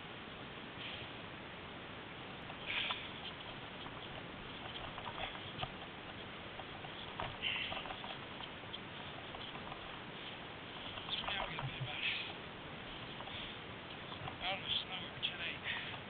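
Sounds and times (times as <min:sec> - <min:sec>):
small scuffs and clicks: 0:02.4 - 0:16.0.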